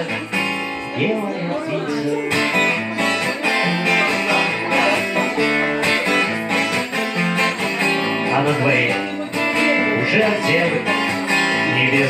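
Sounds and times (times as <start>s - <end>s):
acoustic guitar strumming: 0.0s - 12.0s
person singing: 0.0s - 12.0s.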